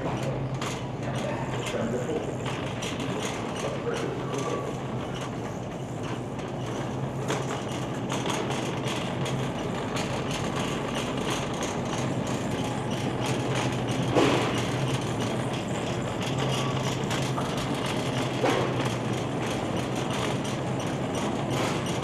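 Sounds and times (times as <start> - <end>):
busy store background noise: 0.0 - 22.0.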